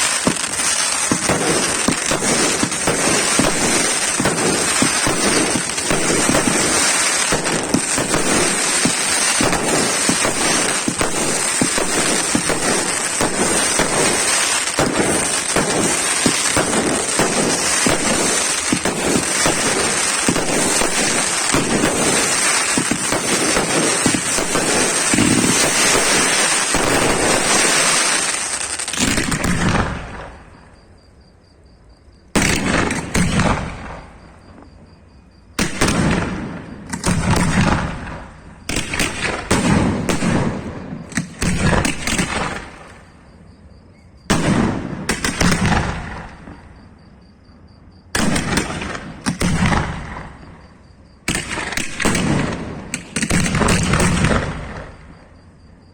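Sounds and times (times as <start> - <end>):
loud firework bangs: 0.0 - 30.6, 32.3 - 34.8, 35.6 - 43.2, 44.2 - 46.8, 48.1 - 55.4
fireworks crackling and banging: 0.0 - 30.7, 32.4 - 34.7, 35.6 - 43.2, 44.3 - 46.8, 48.2 - 55.6.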